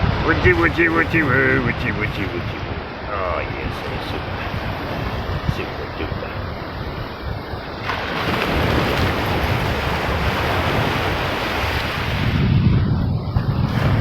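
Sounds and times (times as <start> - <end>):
waves washing on a beach: 0.0 - 14.0
wind buffeting microphone: 0.0 - 14.0.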